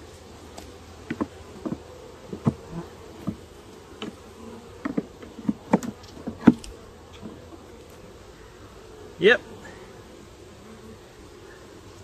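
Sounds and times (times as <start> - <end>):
bees buzzing: 0.0 - 12.0
hive tool scraping wooden frames: 0.0 - 12.0.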